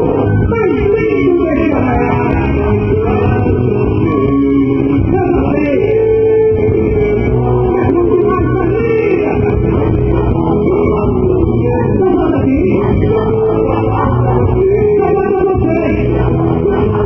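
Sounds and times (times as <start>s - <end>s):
loud dance music with singing: 0.0s - 17.0s.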